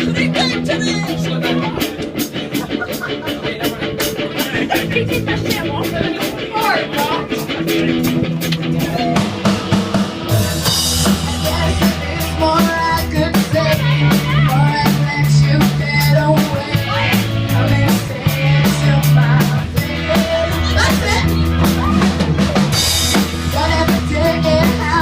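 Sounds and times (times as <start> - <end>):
drum kit with rimshots: 0.0 - 25.0
live rock band playing: 0.0 - 25.0.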